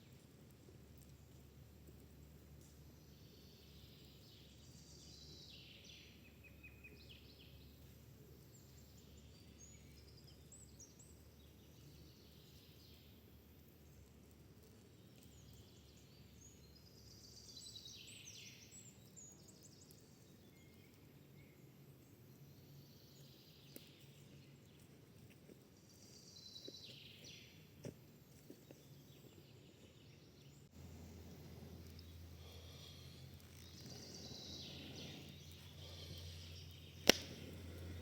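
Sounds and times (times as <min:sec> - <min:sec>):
outdoor background noise: 0:00.0 - 0:38.0
songbird singing: 0:02.1 - 0:13.3, 0:14.9 - 0:24.9, 0:25.8 - 0:27.7, 0:28.4 - 0:38.0.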